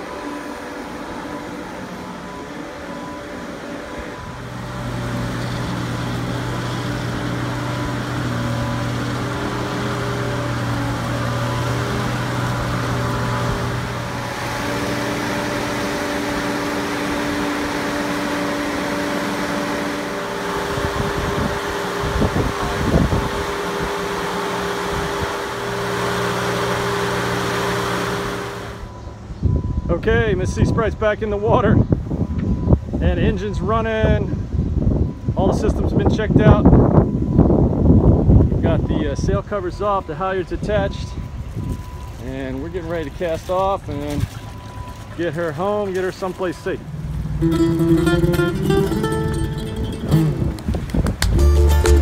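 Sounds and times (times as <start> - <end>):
engine humming: 0.0 - 35.4, 36.7 - 52.0.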